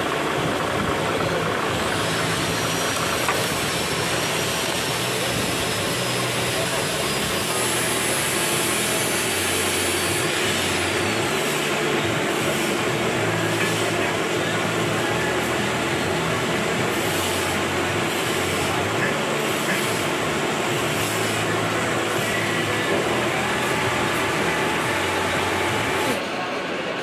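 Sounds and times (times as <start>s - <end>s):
milling machine running: 0.0s - 26.4s.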